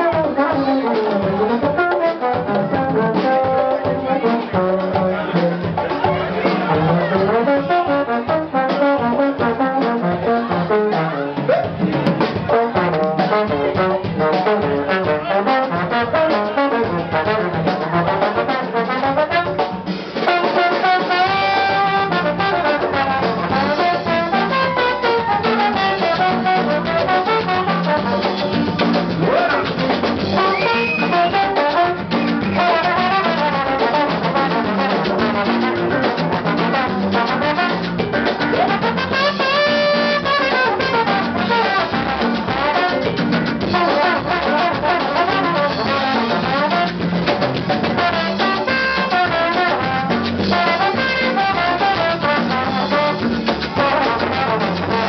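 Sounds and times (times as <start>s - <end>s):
live band music: 0.0s - 55.0s
trombone sliding between notes: 6.4s - 11.8s, 12.4s - 55.0s.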